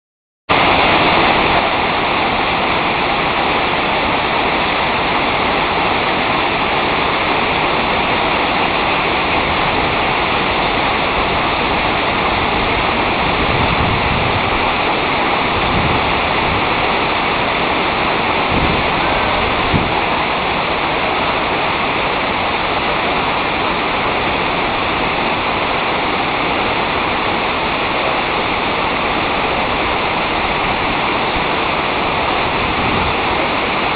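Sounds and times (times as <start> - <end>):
waterfall roaring: 0.5 - 33.9
wind gusts on microphone: 0.5 - 33.9.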